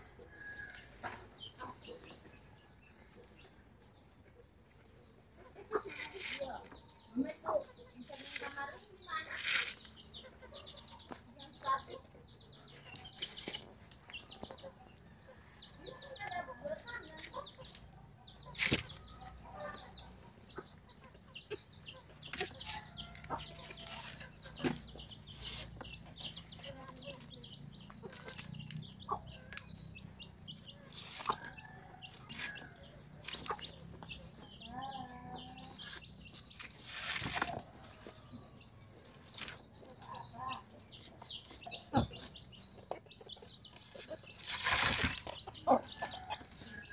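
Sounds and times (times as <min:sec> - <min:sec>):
chickens clucking: 0:01.0 - 0:15.1, 0:16.2 - 0:46.7.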